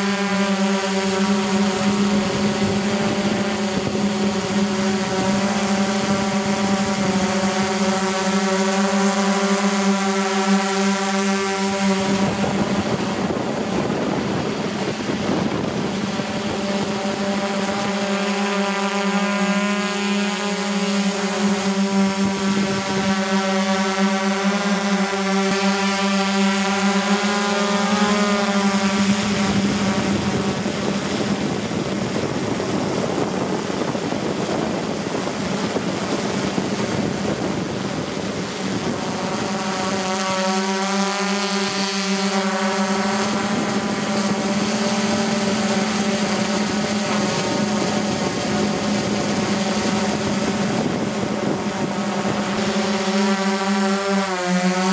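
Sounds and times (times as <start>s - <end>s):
drone motors and propellers humming: 0.0s - 54.9s
wind noise: 0.7s - 8.6s, 11.1s - 53.8s.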